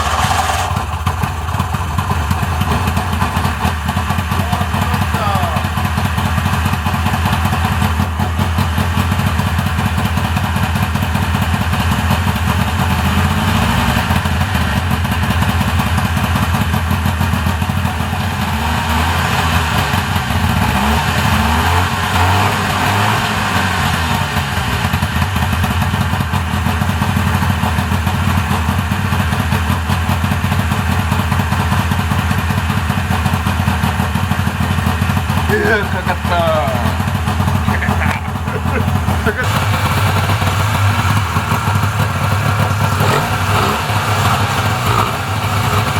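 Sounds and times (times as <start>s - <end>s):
two-stroke engine idling: 0.0s - 45.9s.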